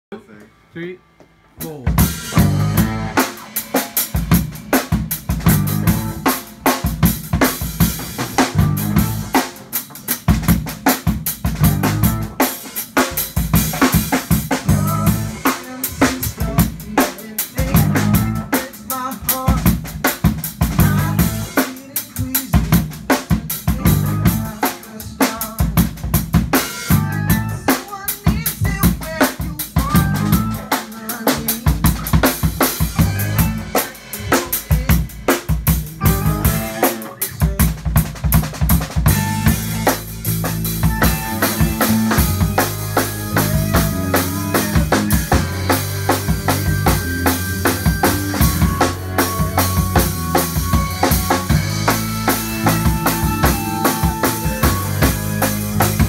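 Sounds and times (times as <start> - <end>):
drum kit beat: 0.1 - 56.0
rock band playing: 0.2 - 56.0.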